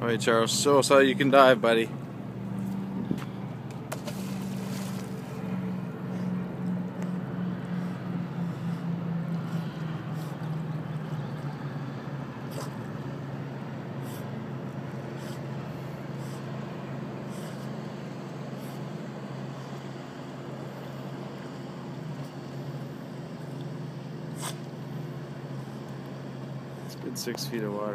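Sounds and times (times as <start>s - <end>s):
motorboat engine droning: 0.0s - 27.9s.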